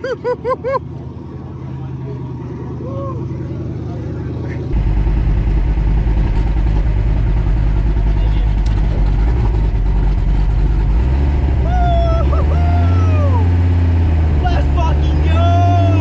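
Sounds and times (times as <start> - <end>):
racing car engine rumbling: 0.0 - 16.0.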